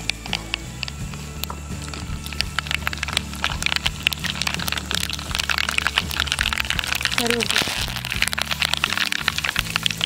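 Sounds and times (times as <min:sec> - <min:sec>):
seeds popping in hot oil: 0:00.0 - 0:10.0.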